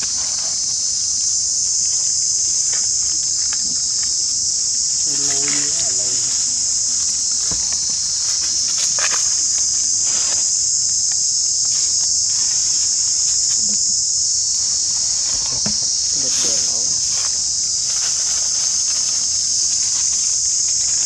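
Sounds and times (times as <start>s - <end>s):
dry leaves rustling: 0.0s - 21.0s
insect chorus drone: 0.0s - 21.0s.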